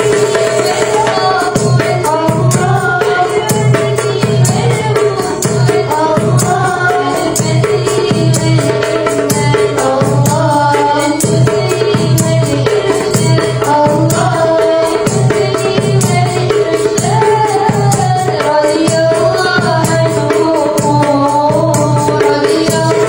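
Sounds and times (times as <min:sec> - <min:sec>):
hand drum rhythm: 0:00.0 - 0:23.0
jingling tambourines: 0:00.0 - 0:23.0
women singing devotional song: 0:00.0 - 0:23.0.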